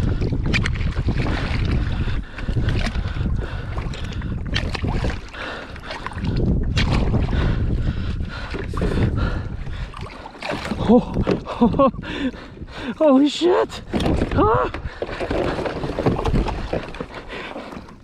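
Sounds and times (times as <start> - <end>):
water splashing around kayak: 0.0 - 18.0
wind buffeting microphone: 0.0 - 18.0.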